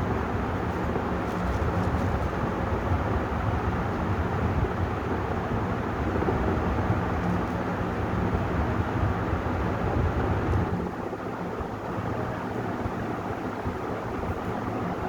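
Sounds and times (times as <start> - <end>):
air rushing from fan blades: 0.0 - 15.0
ceiling fan motor hum: 0.0 - 15.0.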